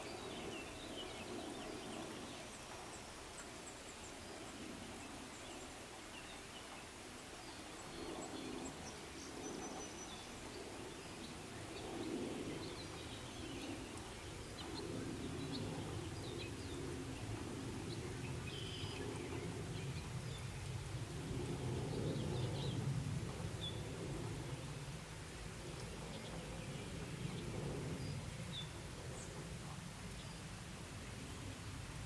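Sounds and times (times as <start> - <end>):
steady outdoor hiss: 0.0 - 32.0.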